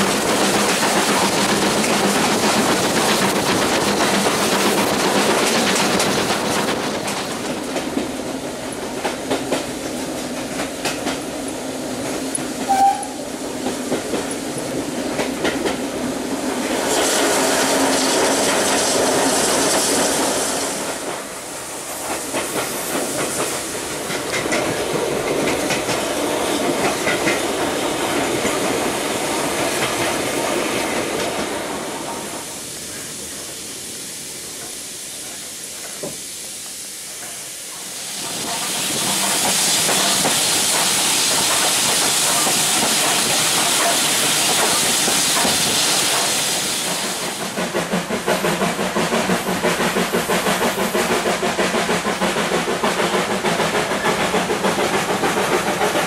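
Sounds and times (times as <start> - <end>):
train rail clatter: 0.0 - 33.1, 34.5 - 56.0
steam hissing: 0.0 - 56.0.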